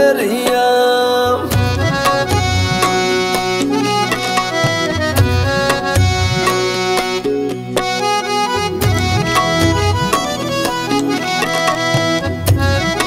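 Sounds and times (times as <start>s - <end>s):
tabla beats: 1.4s - 13.0s
reed instrument melody: 1.5s - 13.0s.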